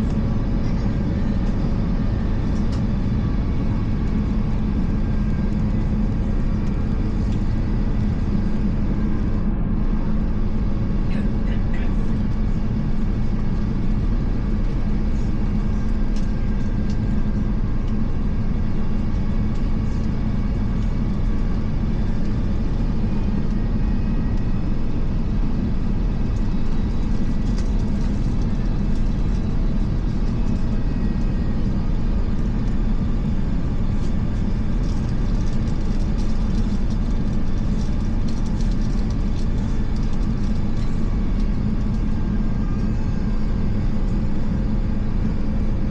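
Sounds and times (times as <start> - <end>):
airliner cabin rumble: 0.0 - 45.9
low hum: 0.0 - 45.9.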